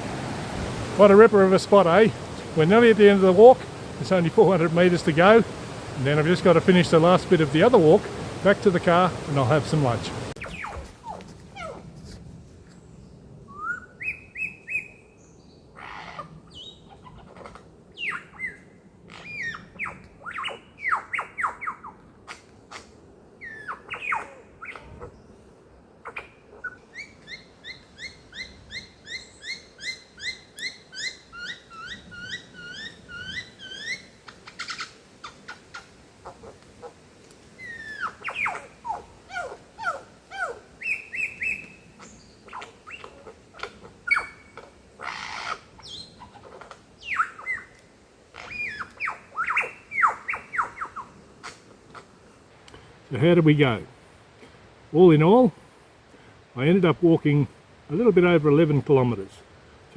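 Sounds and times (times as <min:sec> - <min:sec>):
birds singing: 0:00.0 - 0:11.8, 0:12.7 - 0:22.0, 0:23.2 - 0:36.4, 0:37.5 - 0:47.8, 0:48.4 - 0:52.2.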